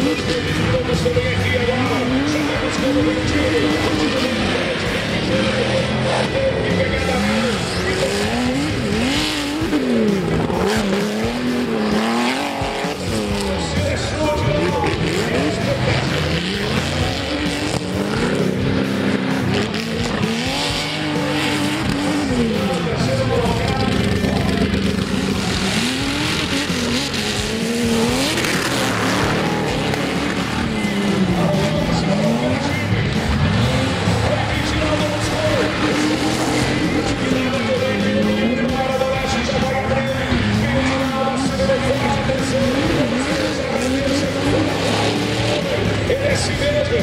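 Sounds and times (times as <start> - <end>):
off-road engine revving hard: 0.0 - 47.0
tyres on dirt: 0.0 - 47.0.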